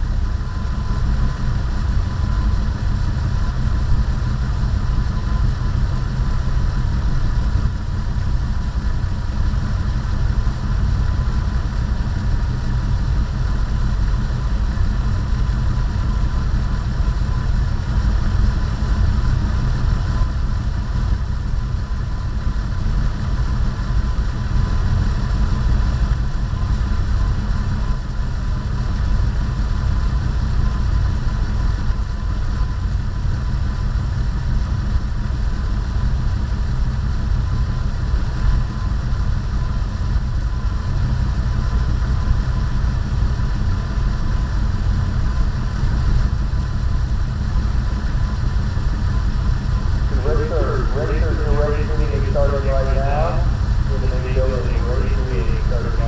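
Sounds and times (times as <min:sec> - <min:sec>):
car engines idling: 0:00.0 - 0:56.0
faint steady tone: 0:00.0 - 0:56.0.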